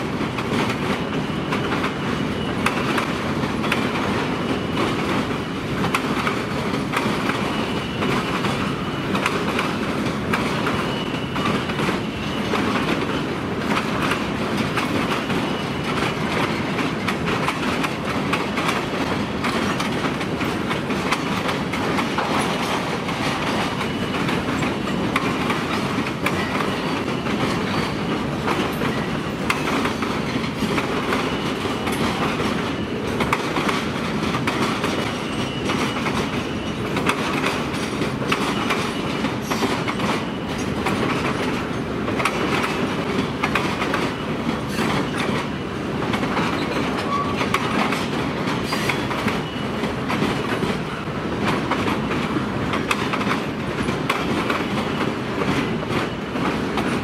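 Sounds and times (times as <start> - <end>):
train wheels rumbling on rail: 0.0 - 57.0
wheels clattering over rail joints: 0.0 - 57.0.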